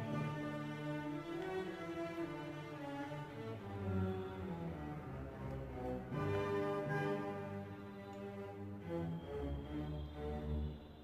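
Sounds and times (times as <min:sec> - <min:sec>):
bowed strings playing slow notes: 0:00.0 - 0:11.0.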